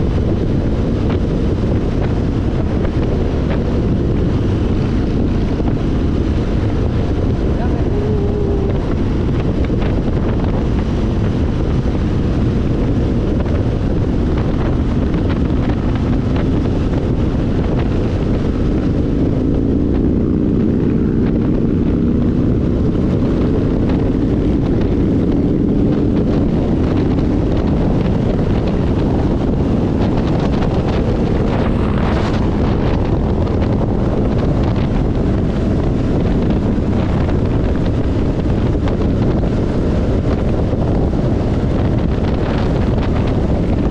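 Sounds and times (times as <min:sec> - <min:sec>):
motorcycle engine droning: 0:00.0 - 0:43.9
wind buffeting microphone: 0:00.0 - 0:43.9.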